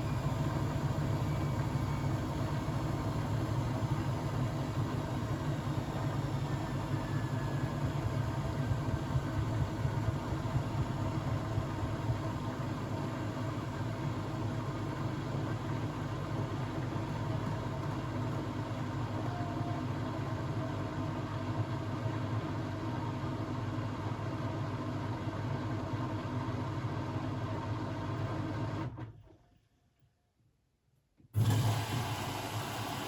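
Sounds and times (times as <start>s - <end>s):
washing machine humming: 0.0s - 28.8s, 31.4s - 33.0s.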